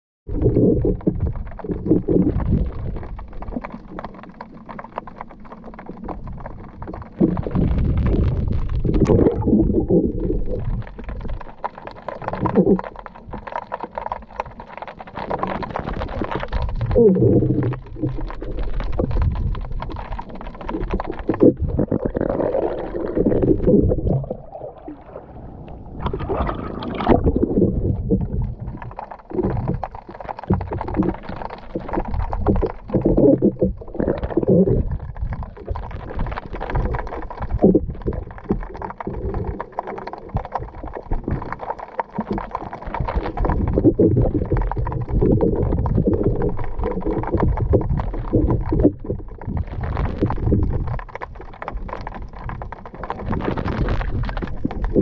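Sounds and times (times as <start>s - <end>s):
muffled underwater water sloshing: 0.3s - 55.0s.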